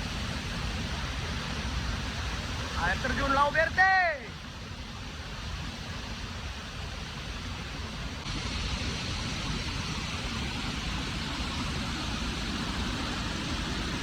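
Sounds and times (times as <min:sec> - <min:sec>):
waterfall rushing: 0:00.0 - 0:05.0, 0:07.8 - 0:14.0.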